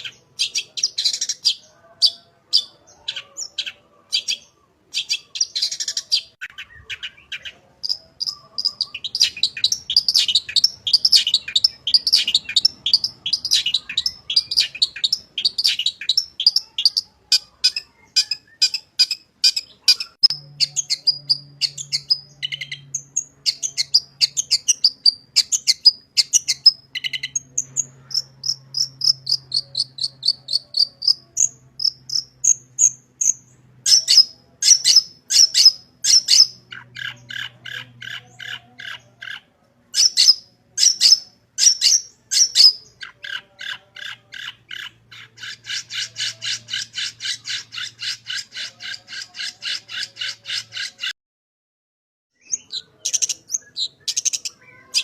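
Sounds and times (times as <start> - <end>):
bird chattering song: 0.0 - 51.1, 52.4 - 55.0.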